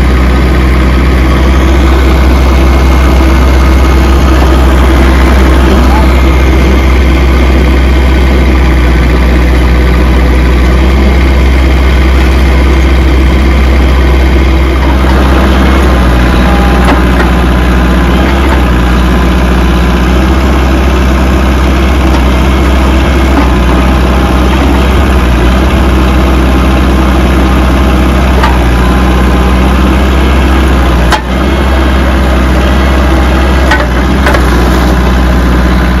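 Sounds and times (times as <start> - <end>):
trencher engine running loudly: 0.0 - 36.0.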